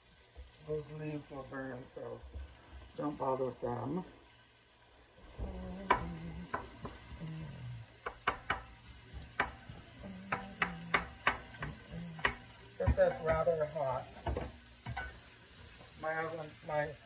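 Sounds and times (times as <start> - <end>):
onions sizzling: 0.0 - 17.0.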